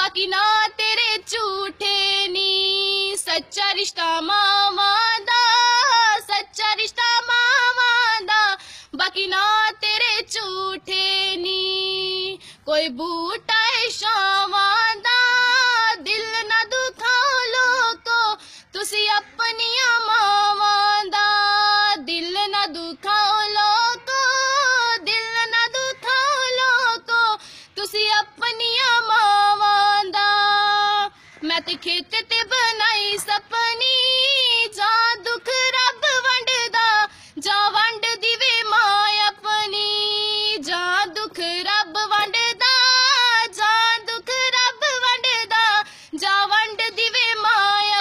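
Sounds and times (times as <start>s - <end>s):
girl singing unaccompanied: 0.0s - 48.0s.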